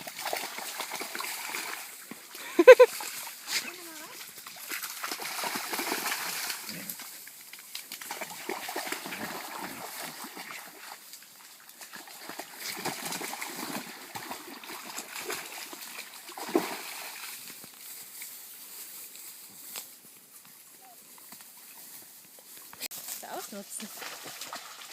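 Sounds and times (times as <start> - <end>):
water sloshing and splashing: 0.0 - 17.9, 22.2 - 24.9.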